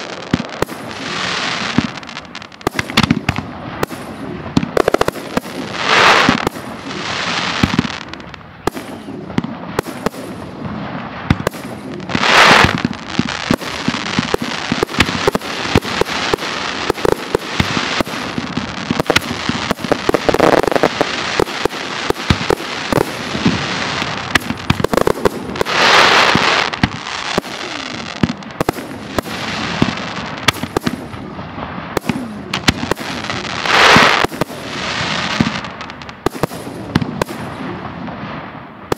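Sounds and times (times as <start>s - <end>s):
crackling hiss of fireworks: 0.0s - 38.9s
fireworks bangs and cracks: 0.0s - 38.9s.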